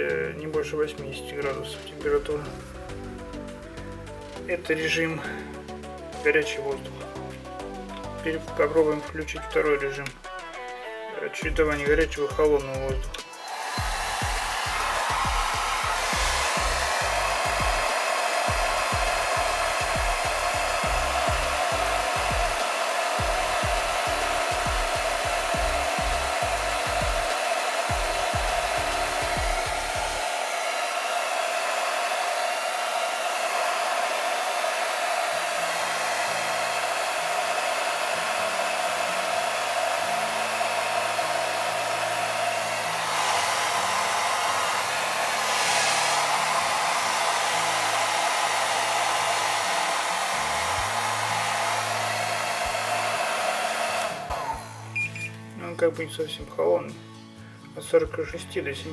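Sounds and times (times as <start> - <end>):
hair dryer running: 1.4 - 9.0, 13.1 - 55.3.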